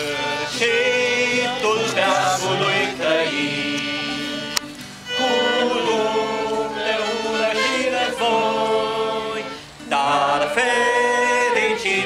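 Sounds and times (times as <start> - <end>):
acoustic guitar: 0.0 - 12.0
group singing a hymn: 0.0 - 12.0.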